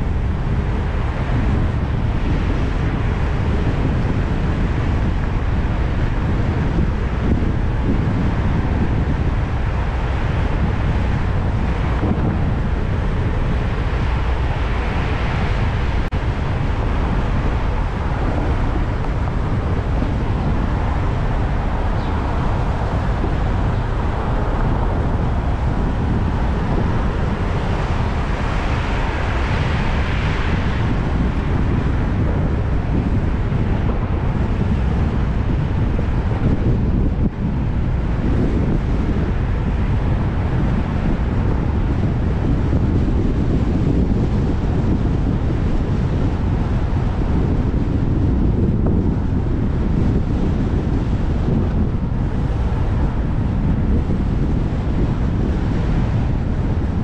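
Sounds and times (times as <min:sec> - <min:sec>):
city traffic rumble: 0:00.0 - 0:57.0
wind noise on microphone: 0:00.0 - 0:57.0.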